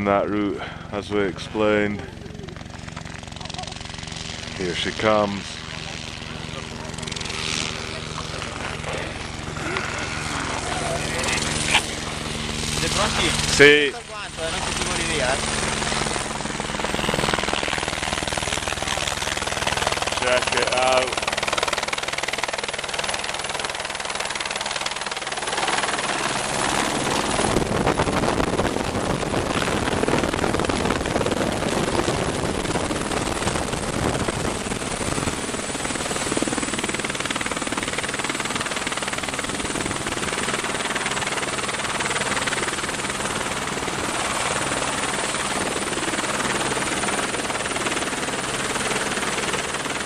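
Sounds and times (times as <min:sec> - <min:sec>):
helicopter rotor and turbine: 0:00.0 - 0:50.0
rushing rotor wash: 0:04.1 - 0:48.6.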